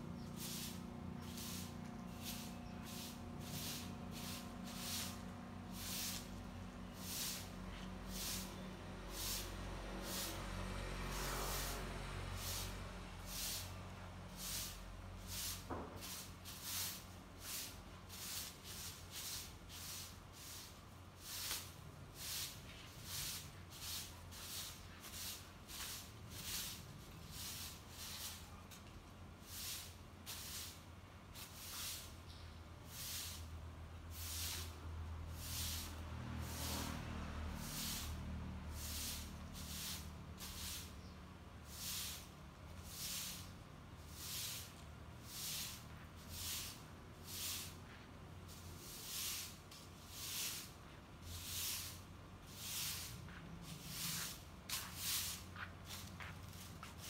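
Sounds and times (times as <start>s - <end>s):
broom sweeping stone paving: 0.0s - 57.0s.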